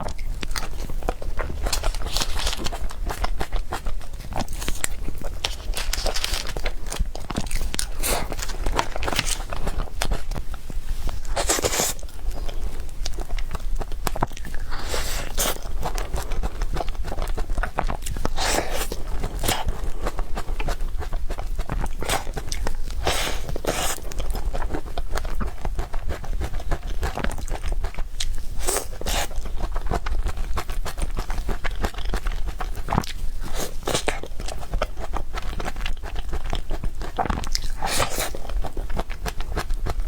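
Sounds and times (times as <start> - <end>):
person biting and chewing cake: 0.0 - 40.0.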